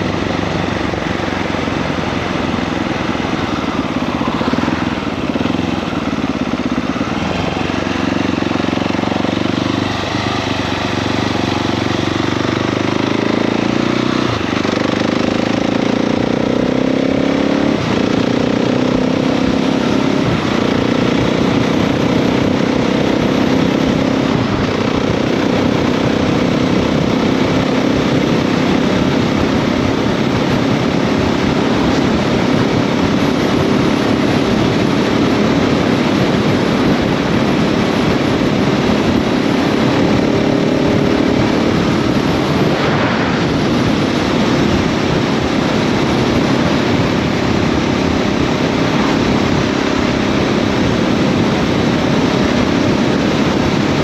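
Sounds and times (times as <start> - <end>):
motorcycle engine accelerating: 0.0 - 54.0
wind rush: 0.0 - 54.0.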